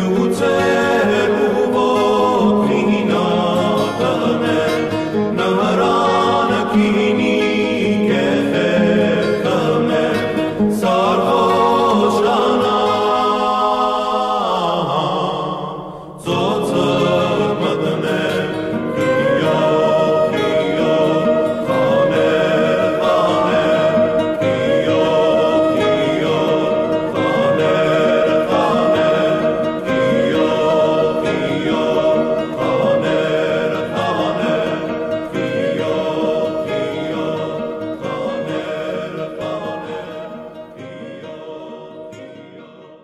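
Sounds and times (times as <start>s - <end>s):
folk song with singing voices: 0.0s - 43.0s.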